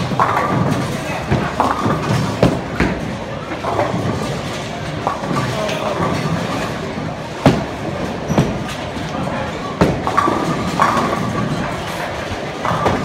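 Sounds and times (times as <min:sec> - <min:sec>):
background chatter: 0:00.0 - 0:13.0.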